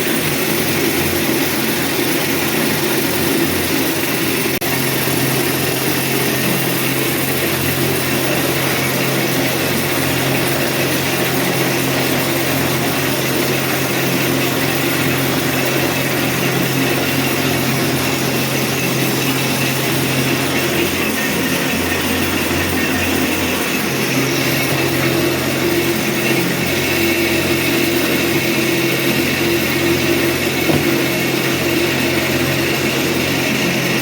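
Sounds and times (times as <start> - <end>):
machine humming and whirring: 0.0 - 34.0.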